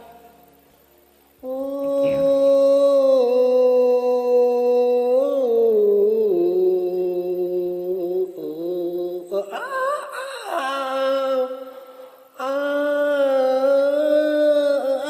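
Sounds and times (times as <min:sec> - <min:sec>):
person singing long wordless notes: 0:01.4 - 0:15.0.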